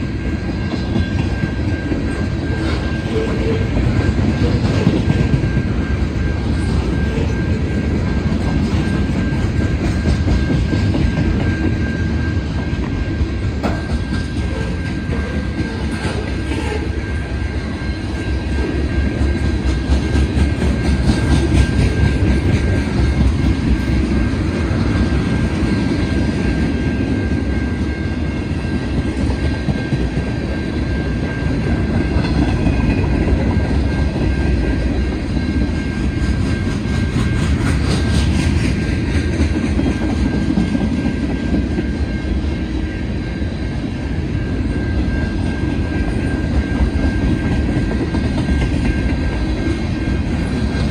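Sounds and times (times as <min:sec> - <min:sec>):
steel wheels rumbling on rail: 0:00.0 - 0:50.9.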